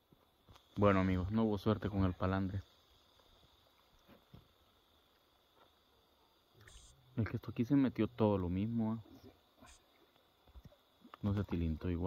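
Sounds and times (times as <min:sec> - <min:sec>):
faint insect chirring: 0:00.0 - 0:12.0.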